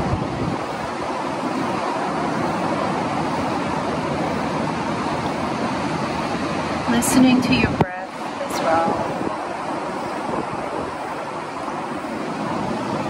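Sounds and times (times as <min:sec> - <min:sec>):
steady wind rushing: 0:00.0 - 0:13.0.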